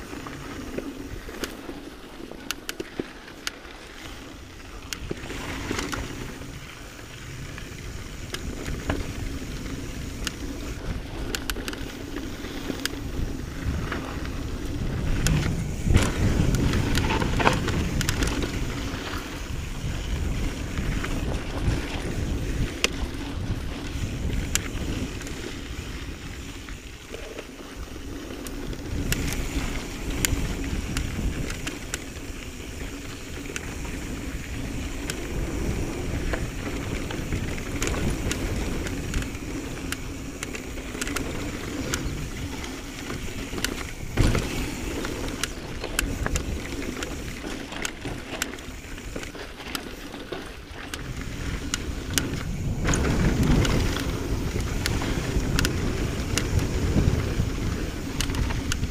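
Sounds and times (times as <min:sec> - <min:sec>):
bike rattling and knocking: 0:00.0 - 0:58.9
bike tyres rolling over dirt: 0:00.0 - 0:58.9
wind on microphone: 0:04.4 - 0:58.9.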